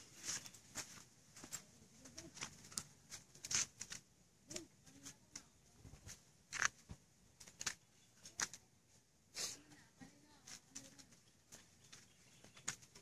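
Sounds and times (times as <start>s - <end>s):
scuffs on dry dirt and leaves: 0.0s - 8.6s, 10.0s - 13.0s.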